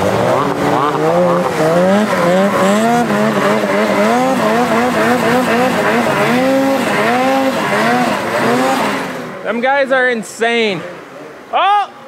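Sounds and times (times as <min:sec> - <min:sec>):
snowmobile engine revving: 0:00.0 - 0:09.7.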